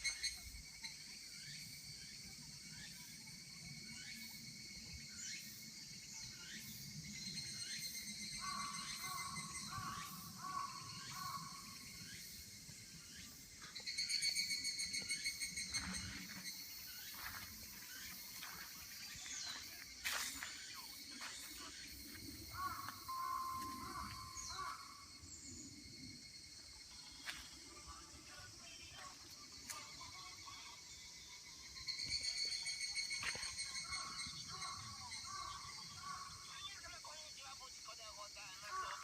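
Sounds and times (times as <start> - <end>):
insects chirping: 0.0 - 39.0
fast-pulsing insect trill: 0.1 - 39.0.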